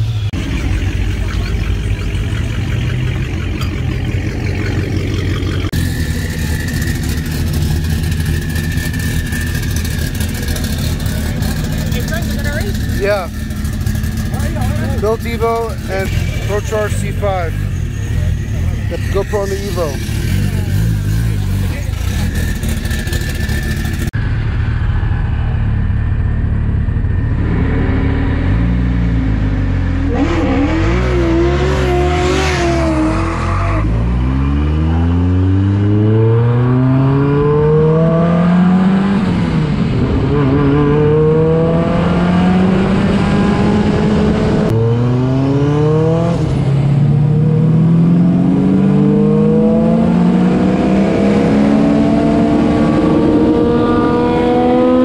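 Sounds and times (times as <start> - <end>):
car engine accelerating hard: 0.0 - 55.0.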